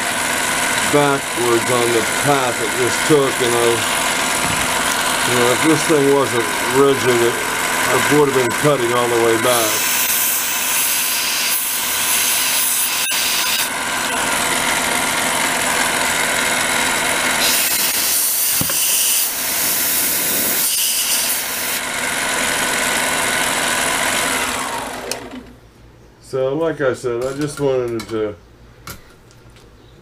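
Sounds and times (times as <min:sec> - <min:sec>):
metal cutting noise: 0:00.0 - 0:25.3
lathe motor whine: 0:00.0 - 0:25.6.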